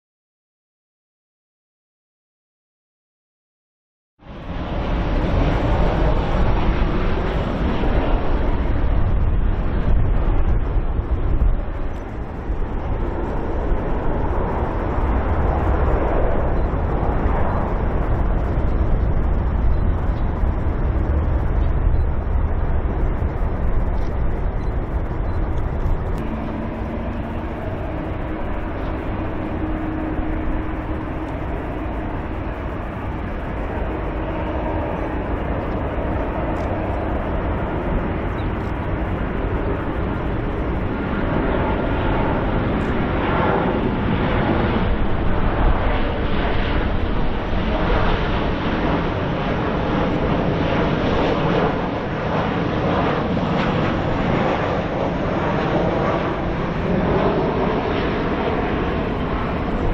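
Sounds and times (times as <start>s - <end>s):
distant jet engines rumbling: 4.2s - 59.9s
wind noise: 4.2s - 59.9s.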